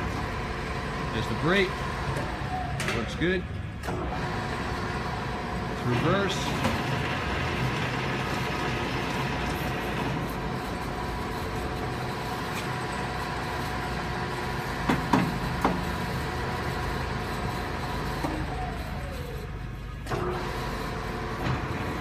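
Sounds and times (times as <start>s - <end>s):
lathe humming: 3.8s - 22.0s.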